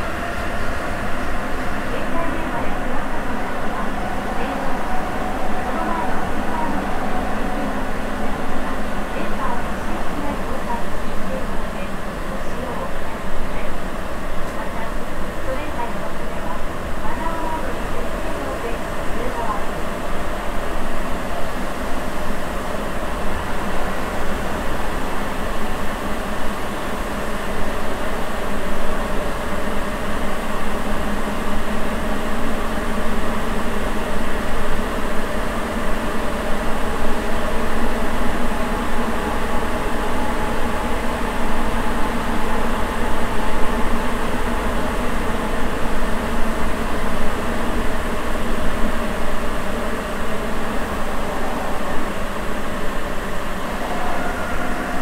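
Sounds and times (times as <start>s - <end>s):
subway train interior rumble: 0.0s - 55.0s.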